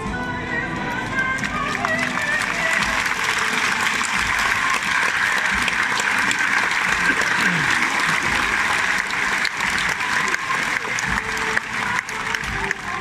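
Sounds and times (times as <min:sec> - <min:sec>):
crowd applauding: 0:01.1 - 0:13.0.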